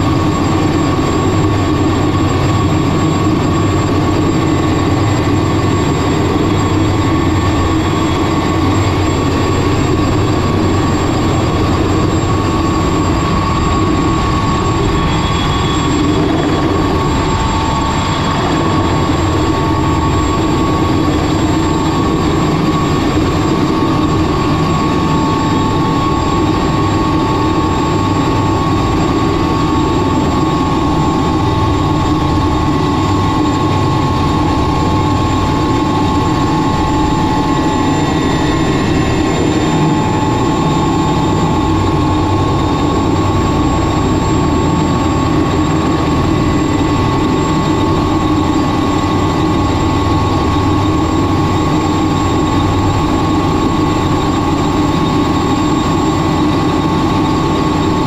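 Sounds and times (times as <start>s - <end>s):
helicopter rotor rumble: 0.0s - 58.0s
helicopter turbine whine: 0.0s - 58.0s.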